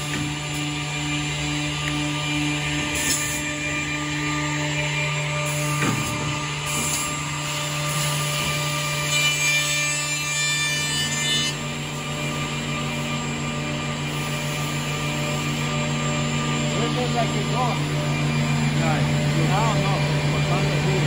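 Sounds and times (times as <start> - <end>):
edge banding machine humming: 0.0 - 21.0.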